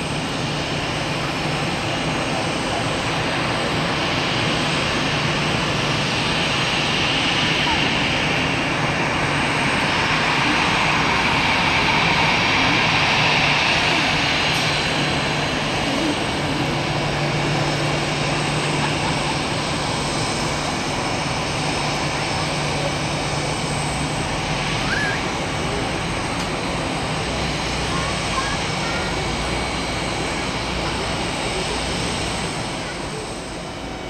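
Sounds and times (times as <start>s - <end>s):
high engine whine: 0.0s - 34.0s
jet engines rushing: 0.0s - 34.0s.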